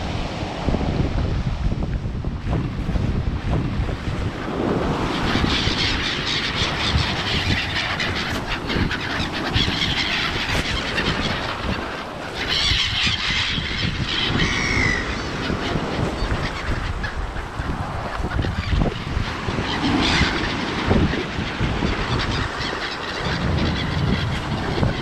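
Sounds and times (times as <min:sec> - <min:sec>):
wind on microphone: 0:00.0 - 0:25.0
gulls calling: 0:04.3 - 0:25.0.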